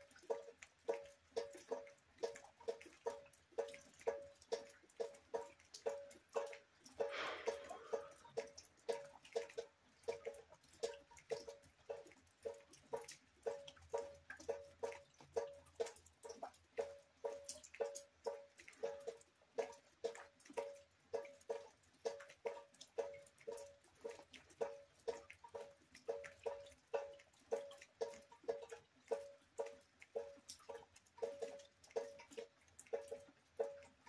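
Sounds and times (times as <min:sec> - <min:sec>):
water drops plinking into bucket: 0:00.0 - 0:34.0.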